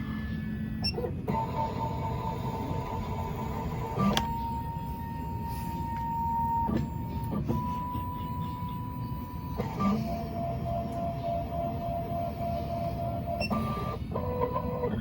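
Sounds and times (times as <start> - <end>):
machine motor whining: 0.4 - 15.0.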